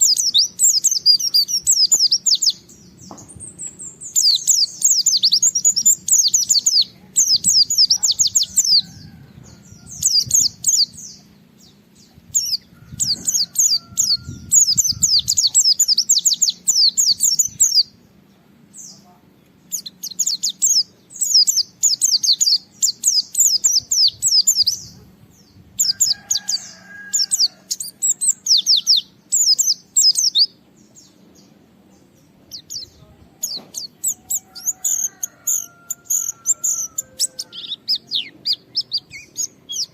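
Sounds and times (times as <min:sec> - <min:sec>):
white-eye bird singing trilled phrases: 0:00.0 - 0:09.0, 0:12.3 - 0:18.0, 0:19.6 - 0:25.1, 0:25.8 - 0:30.6, 0:32.5 - 0:39.9.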